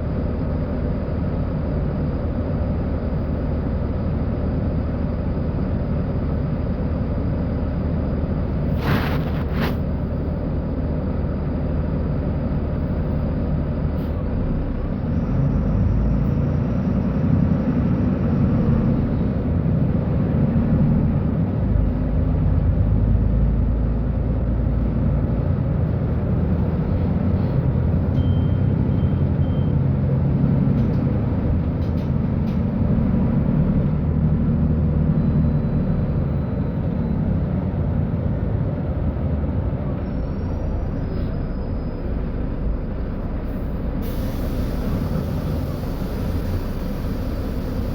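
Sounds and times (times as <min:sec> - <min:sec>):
bus engine rumbling: 0:00.0 - 0:47.9.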